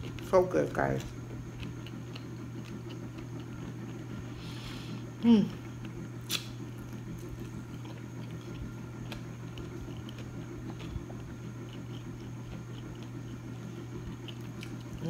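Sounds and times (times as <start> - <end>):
steady low hum: 0.0 - 15.0
quiet chewing: 1.0 - 15.0.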